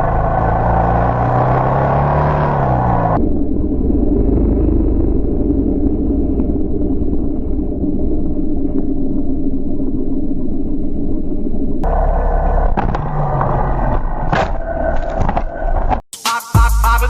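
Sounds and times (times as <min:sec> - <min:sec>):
muffled vehicle rumble: 0:00.0 - 0:16.1.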